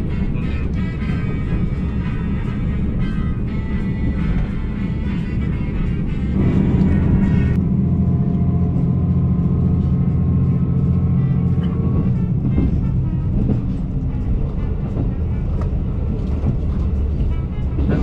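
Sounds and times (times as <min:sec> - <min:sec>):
railcar engine drone: 0:00.0 - 0:18.0
wheels rumbling on track: 0:00.0 - 0:18.0.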